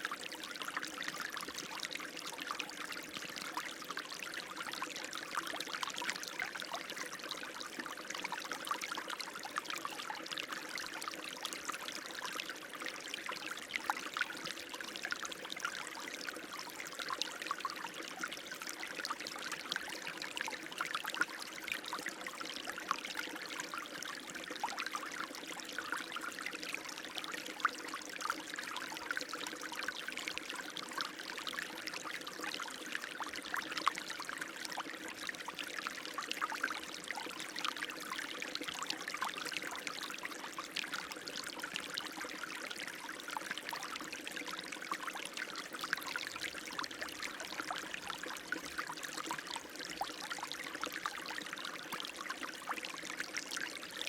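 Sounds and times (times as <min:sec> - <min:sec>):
small splashes and trickles: 0:00.0 - 0:54.0.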